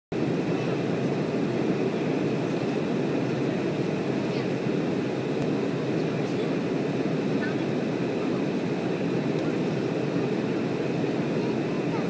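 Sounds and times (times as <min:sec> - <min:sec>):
airliner cabin drone: 0:00.1 - 0:12.0.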